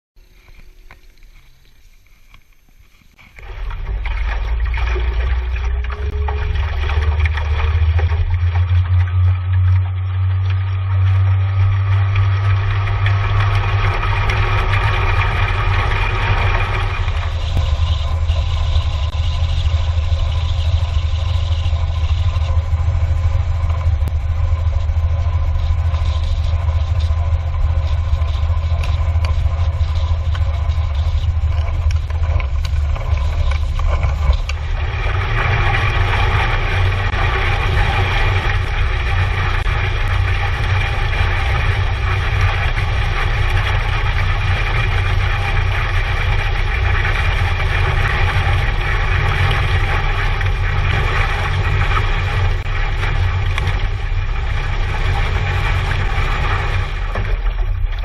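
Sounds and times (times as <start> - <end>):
outboard motor running: 0.2 - 58.0.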